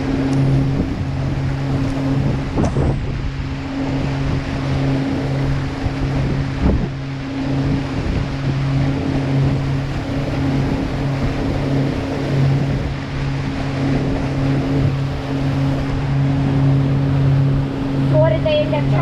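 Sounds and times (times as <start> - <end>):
boat engine humming: 0.0 - 19.0
water wash: 0.0 - 19.0
wind noise: 0.0 - 19.0.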